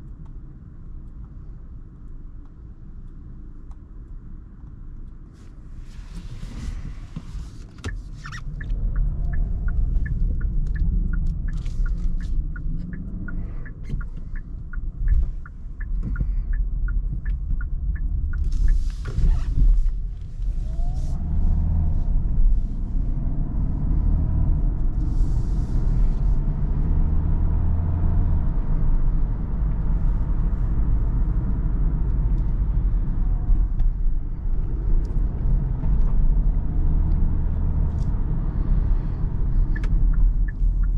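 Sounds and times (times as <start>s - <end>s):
engine and tyre rumble: 0.0s - 40.9s
turn signal ticking: 6.5s - 40.9s.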